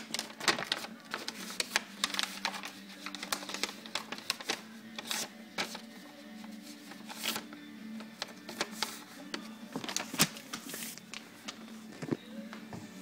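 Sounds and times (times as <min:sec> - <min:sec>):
packaging being handled: 0:00.0 - 0:12.6.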